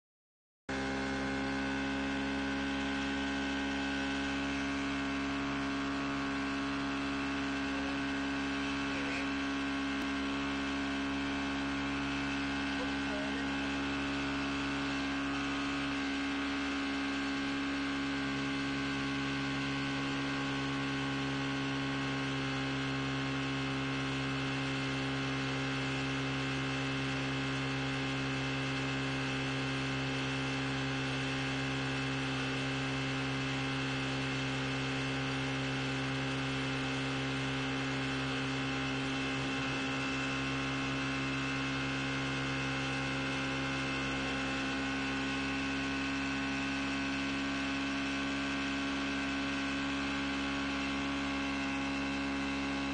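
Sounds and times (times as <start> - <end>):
outboard motor hum: 0.7 - 52.9.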